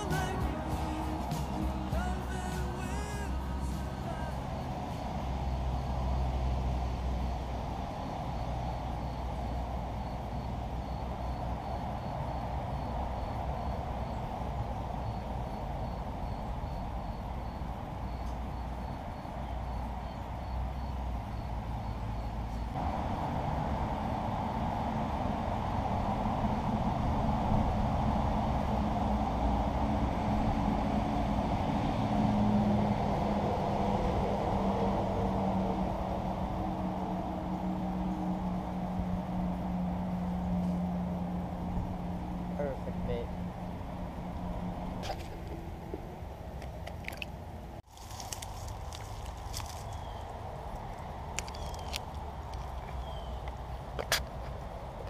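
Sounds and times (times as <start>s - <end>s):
road traffic: 0.0s - 55.0s
truck engine drone: 0.0s - 55.0s.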